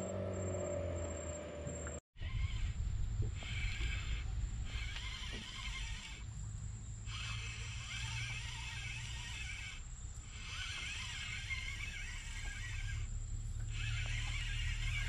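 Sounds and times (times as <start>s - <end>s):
spinning reel whirring: 2.2s - 15.0s.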